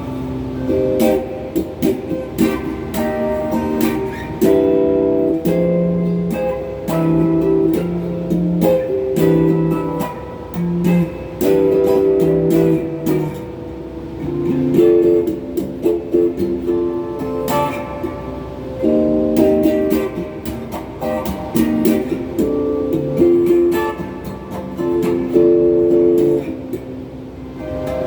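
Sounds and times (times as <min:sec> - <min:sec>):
electric guitar strumming chords: 0:00.0 - 0:28.0.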